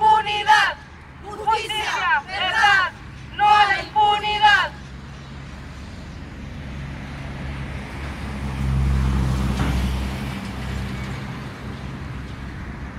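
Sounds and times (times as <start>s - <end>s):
road noise hum: 0.0s - 12.9s.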